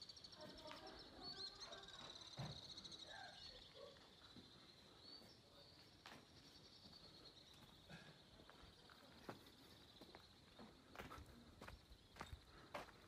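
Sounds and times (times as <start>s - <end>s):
insect chirping trill: 0.0s - 10.6s.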